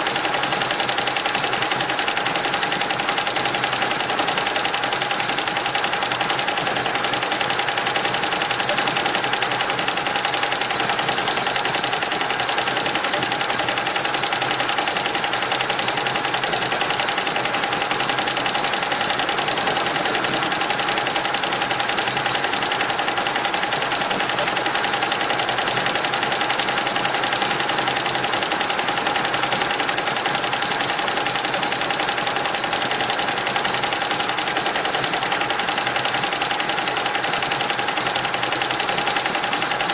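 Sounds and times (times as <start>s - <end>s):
embroidery machine clattering: 0.0s - 39.9s
machine whine: 0.0s - 39.9s.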